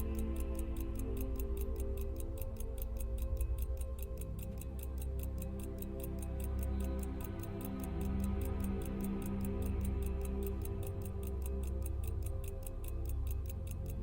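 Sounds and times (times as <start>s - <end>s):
pocket watch ticking: 0.0s - 14.0s
soft background music: 0.0s - 14.0s.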